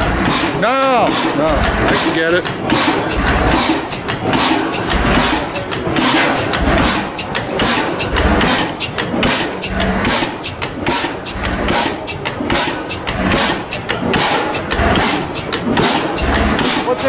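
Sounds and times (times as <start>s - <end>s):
deep engine thuds: 0.0s - 17.0s
stationary engine clattering: 0.0s - 17.0s.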